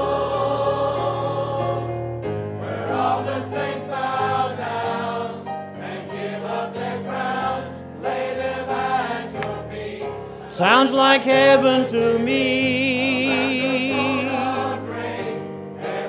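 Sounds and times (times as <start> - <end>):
choir singing gospel chords: 0.0 - 16.0.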